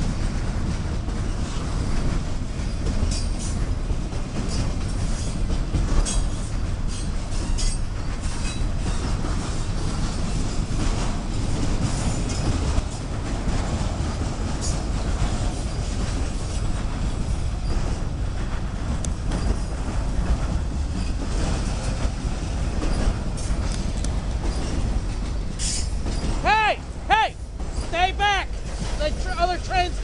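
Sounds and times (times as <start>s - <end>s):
freight train rumbling on rails: 0.0s - 30.0s
train wheels clicking: 0.0s - 30.0s.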